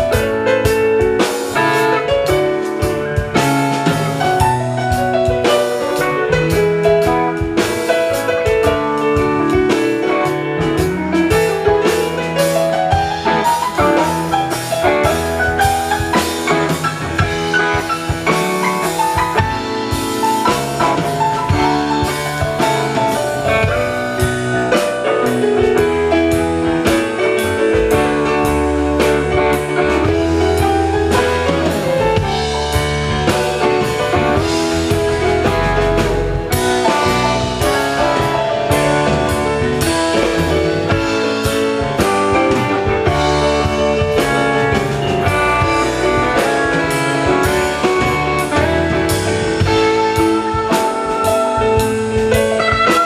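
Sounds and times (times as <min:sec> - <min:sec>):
bass guitar: 0:00.0 - 0:53.0
drum kit: 0:00.0 - 0:53.0
electric guitars: 0:00.0 - 0:53.0
keyboards: 0:00.0 - 0:53.0.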